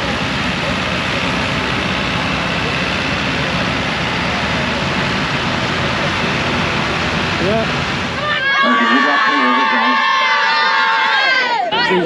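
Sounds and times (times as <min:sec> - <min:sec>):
tractors and harvester machinery din: 0:00.0 - 0:10.3.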